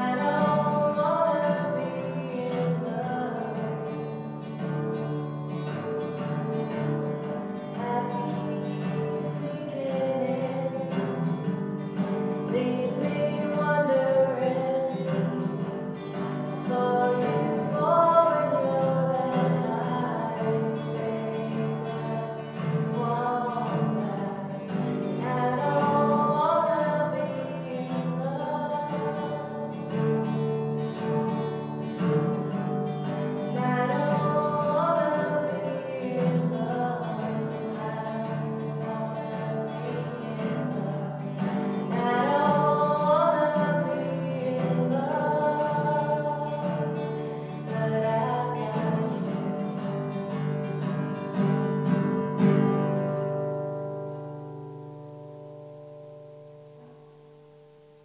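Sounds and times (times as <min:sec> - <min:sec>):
woman singing: 0:00.0 - 0:53.3
acoustic guitar: 0:00.0 - 0:58.0.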